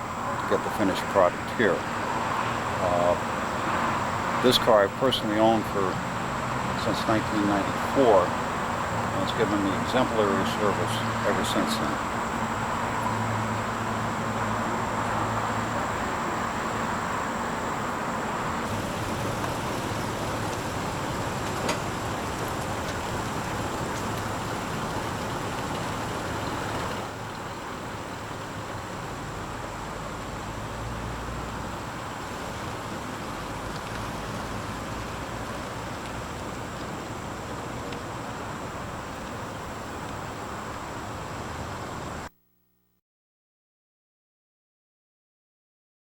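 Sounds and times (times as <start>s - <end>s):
motor vehicle engine hum: 0.0s - 42.3s.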